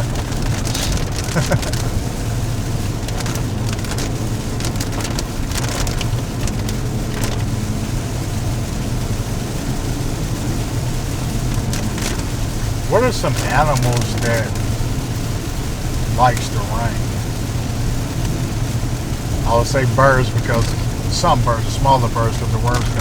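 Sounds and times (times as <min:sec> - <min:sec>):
car engine and road drone: 0:00.0 - 0:23.0
rain ticking on car: 0:00.0 - 0:23.0.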